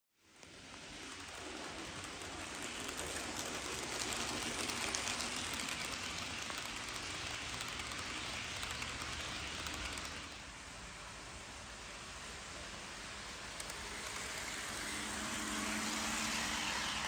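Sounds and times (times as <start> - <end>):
model train wheels clattering: 0.2 - 10.5, 13.4 - 17.0.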